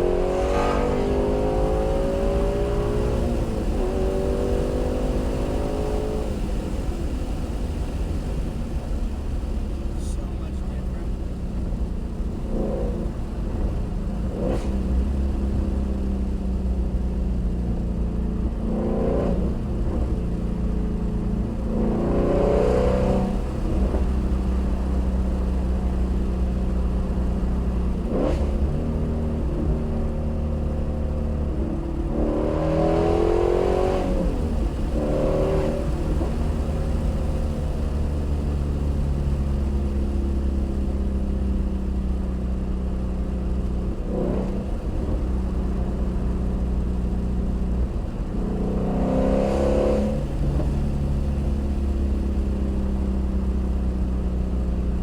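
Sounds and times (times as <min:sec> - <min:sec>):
car engine revving: 0:00.0 - 0:17.2, 0:18.0 - 0:54.9.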